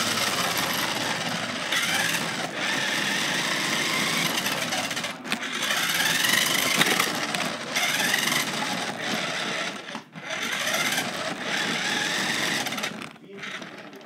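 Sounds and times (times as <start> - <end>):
toy car motor whining: 0.0 - 14.0.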